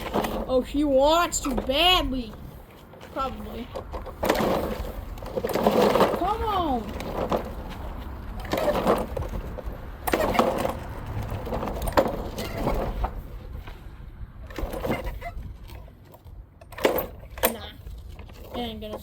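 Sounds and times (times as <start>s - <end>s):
lawn mower recoil starter pulls: 0.0s - 2.0s, 2.7s - 13.4s, 14.4s - 19.0s.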